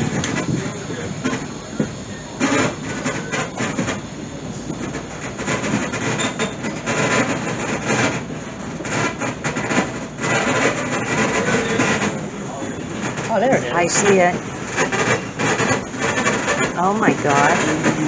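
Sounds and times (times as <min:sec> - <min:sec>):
clacks and rattles: 0:00.0 - 0:18.0
train wheels rumbling on rail: 0:00.0 - 0:18.0.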